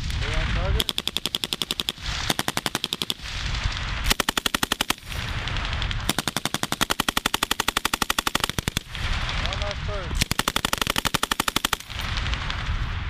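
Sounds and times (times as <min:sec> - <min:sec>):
machine gun firing bursts: 0:00.0 - 0:12.8.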